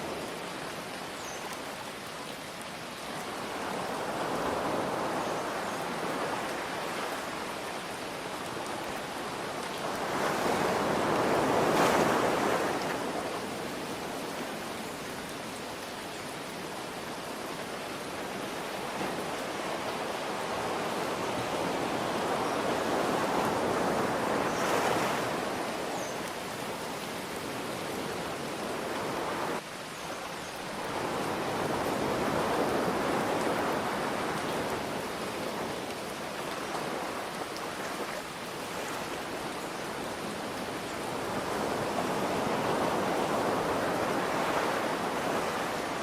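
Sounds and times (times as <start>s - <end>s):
rain hiss: 0.0s - 46.0s
ocean waves breaking: 3.2s - 14.6s, 17.7s - 29.6s, 30.8s - 46.0s.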